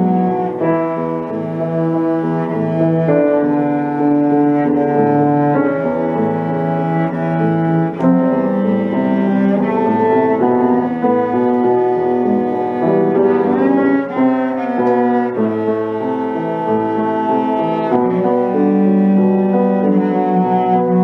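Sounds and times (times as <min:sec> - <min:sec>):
cello bowed notes: 0:00.0 - 0:21.0
piano: 0:00.0 - 0:21.0.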